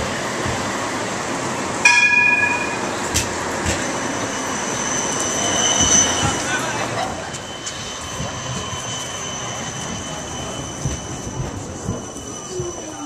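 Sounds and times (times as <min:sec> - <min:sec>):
tram rolling on rails: 0:00.0 - 0:13.0
tram bell ringing: 0:01.3 - 0:13.0
high wheel squeal: 0:01.9 - 0:13.0.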